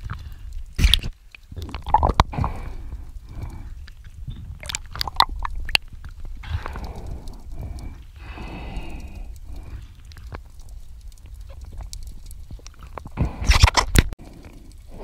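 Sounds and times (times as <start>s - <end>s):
underwater rumble of water: 0.0s - 13.5s
faint clicks: 0.1s - 15.0s.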